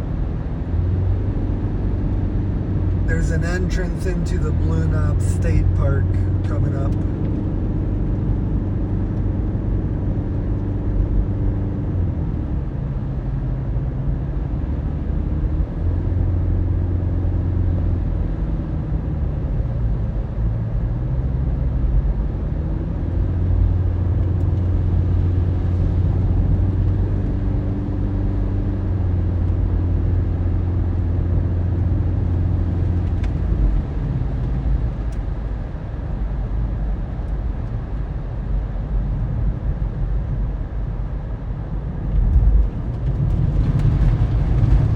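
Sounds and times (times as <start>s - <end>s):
car engine and tyre hum: 0.0s - 44.9s.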